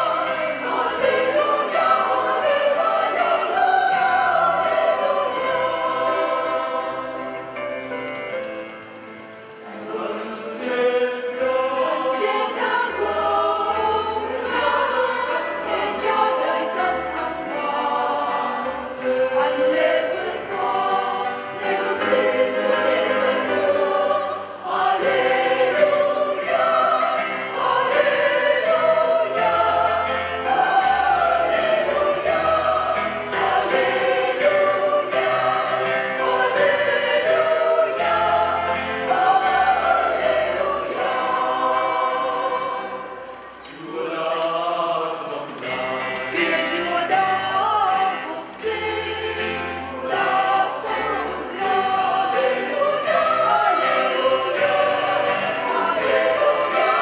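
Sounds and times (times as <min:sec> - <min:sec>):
mixed choir singing a hymn: 0:00.0 - 0:08.1, 0:09.6 - 0:57.0.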